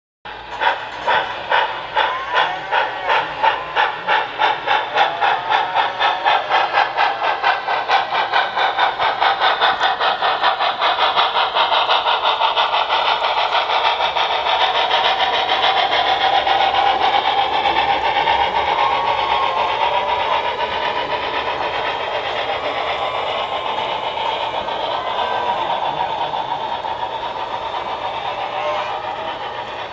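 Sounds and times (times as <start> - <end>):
steam locomotive exhaust chuffs: 0.3 - 29.9.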